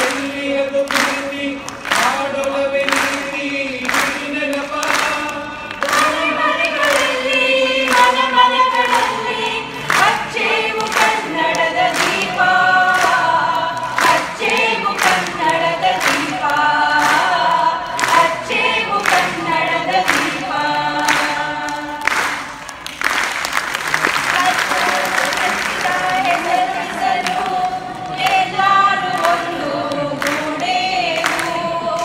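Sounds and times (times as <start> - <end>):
group singing in chorus: 0.0 - 22.8, 24.3 - 32.0
hand claps: 0.0 - 32.0.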